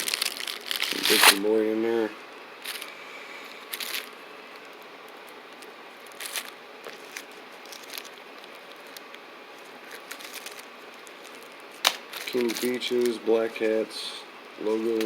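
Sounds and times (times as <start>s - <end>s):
wrapping crinkling and tearing: 0.0s - 1.7s, 2.6s - 3.0s, 3.6s - 13.9s, 14.6s - 15.0s.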